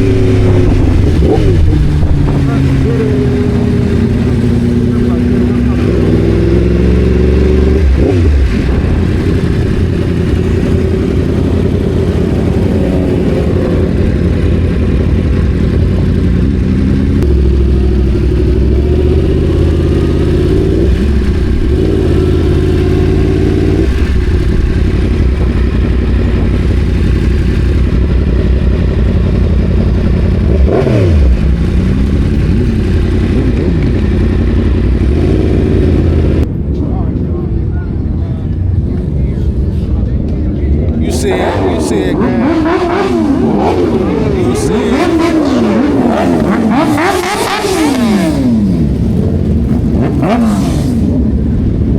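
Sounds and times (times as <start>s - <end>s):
motorcycle engines revving: 0.0s - 51.9s.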